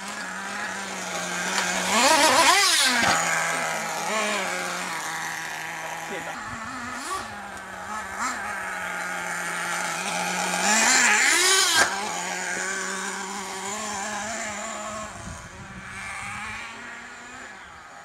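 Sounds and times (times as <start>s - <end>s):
small nitro engine revving: 0.0s - 18.0s.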